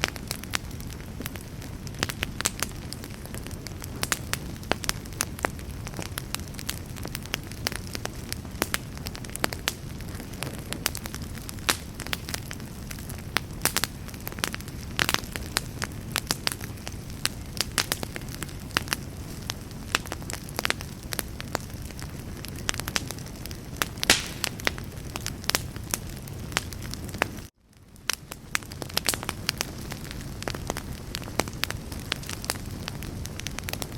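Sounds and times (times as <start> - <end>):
low rumble of flames: 0.0 - 33.9
wood crackling and popping: 0.0 - 33.9.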